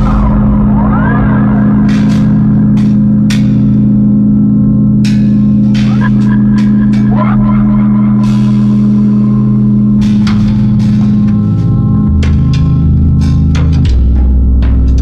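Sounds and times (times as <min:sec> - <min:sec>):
low drone: 0:00.0 - 0:15.0
ringing metallic strikes: 0:00.0 - 0:15.0.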